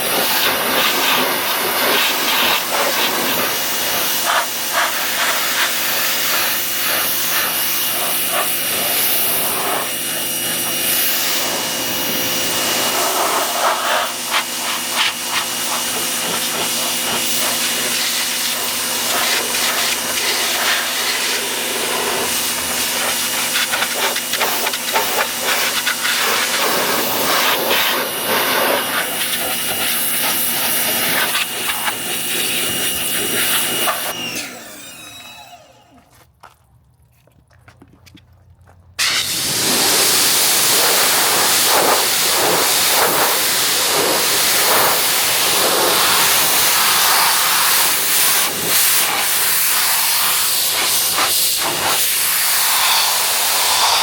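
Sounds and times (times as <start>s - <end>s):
pressure washer jet hissing: 0.0s - 35.9s, 39.0s - 54.0s
washer motor and pump hum: 0.0s - 36.4s, 38.6s - 54.0s.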